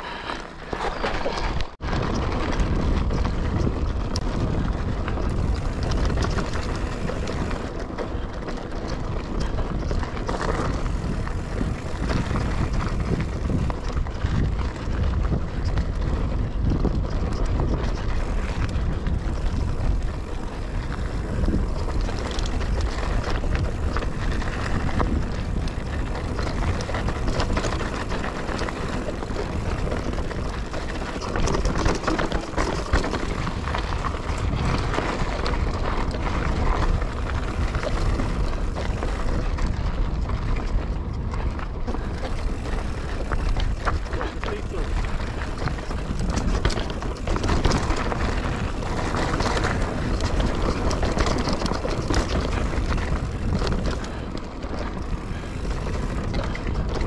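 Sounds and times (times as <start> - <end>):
bike rattling and clicking: 0.0 - 57.0
bike tyres rumbling on dirt: 0.0 - 57.0
wind buffeting microphone: 0.0 - 57.0.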